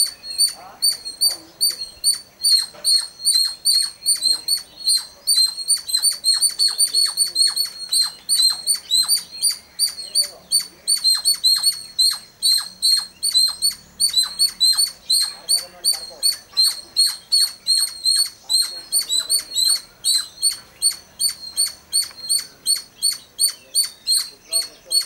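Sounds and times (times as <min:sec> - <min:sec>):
birds chirping rapidly: 0:00.0 - 0:25.0.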